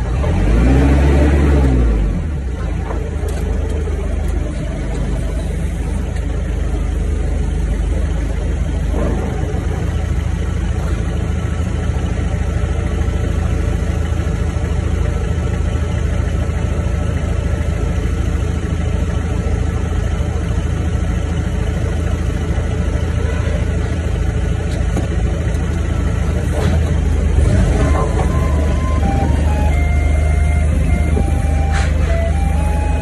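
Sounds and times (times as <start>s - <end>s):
forklift engine humming: 0.0s - 33.0s.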